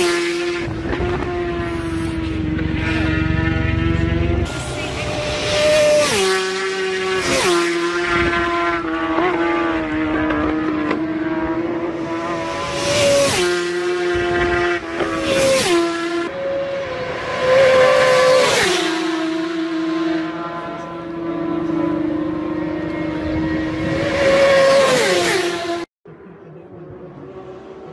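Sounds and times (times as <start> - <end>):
racing motorcycles passing at speed: 0.0 - 25.9, 26.7 - 27.9.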